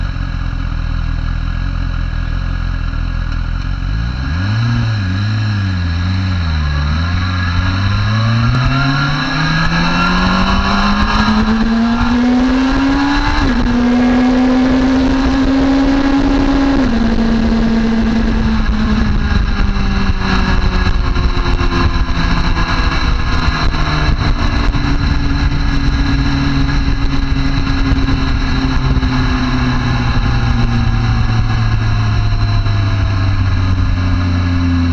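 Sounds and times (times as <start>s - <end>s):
motorcycle engine accelerating: 0.0s - 34.9s
steady rush of noise: 3.9s - 34.9s.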